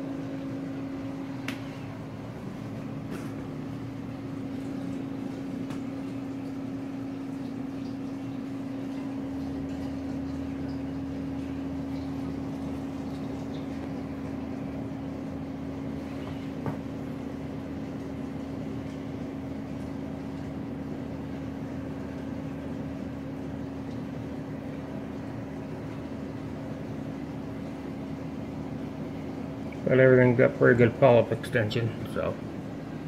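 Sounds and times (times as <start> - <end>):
aquarium pumps humming: 0.0 - 33.0.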